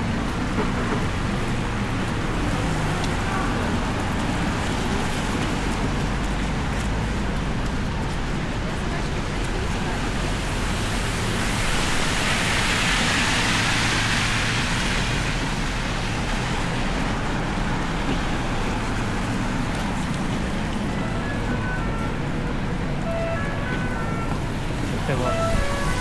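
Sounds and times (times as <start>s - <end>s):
city traffic on wet roads: 0.0s - 26.0s
tyres hissing on wet road: 0.0s - 26.0s.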